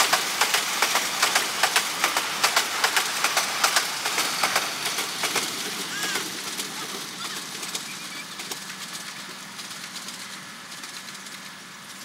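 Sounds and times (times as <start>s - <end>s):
train wheel and track noise: 0.0s - 12.0s.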